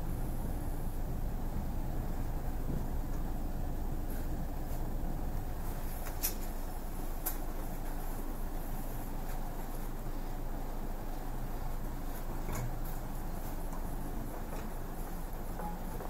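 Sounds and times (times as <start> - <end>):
train carriage rumble and hum: 0.0 - 16.0.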